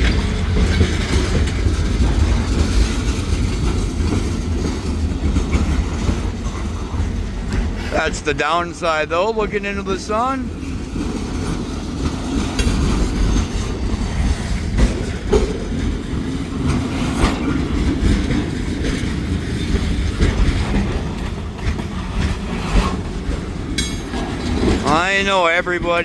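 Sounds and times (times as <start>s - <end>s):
freight train wheels clattering: 0.0s - 26.0s.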